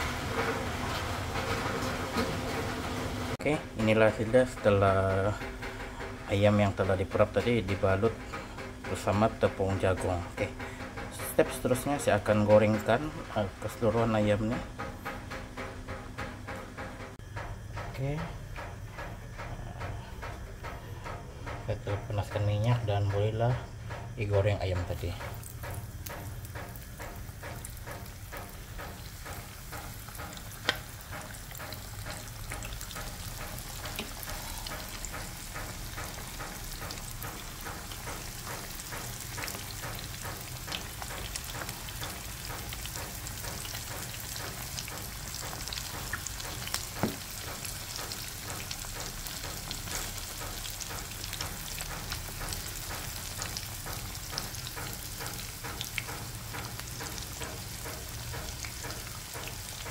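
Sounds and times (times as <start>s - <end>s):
chicken deep-frying in oil: 0.0s - 17.2s, 21.5s - 59.9s.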